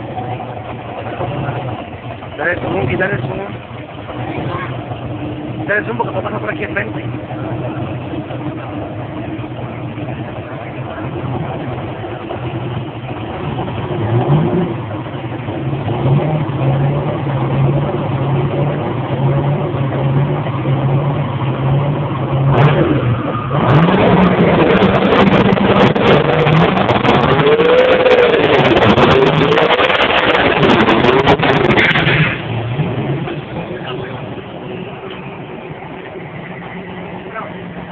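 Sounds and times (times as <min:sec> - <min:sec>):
engine crackles: 0:00.0 - 0:37.9
racing car engine revving: 0:00.0 - 0:37.9
spinning tyres: 0:00.0 - 0:37.9.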